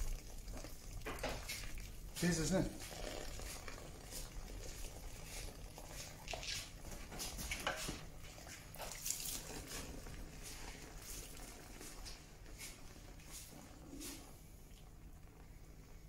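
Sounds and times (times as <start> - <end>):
wet pulp squelching and scraping: 0.0 - 14.4.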